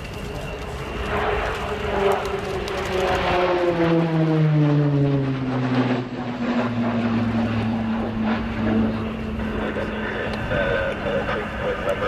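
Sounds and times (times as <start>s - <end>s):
turboprop aircraft flying past: 0.0s - 12.0s.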